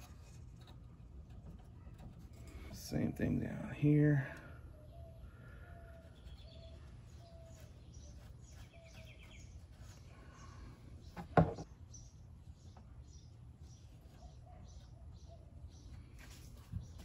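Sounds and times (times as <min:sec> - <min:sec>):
birds chirping: 0:01.4 - 0:17.0.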